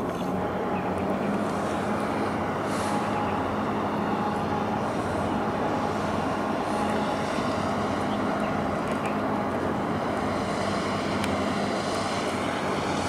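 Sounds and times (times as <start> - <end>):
broad rushing noise: 0.0 - 13.0
ship diesel engines droning: 0.0 - 13.0.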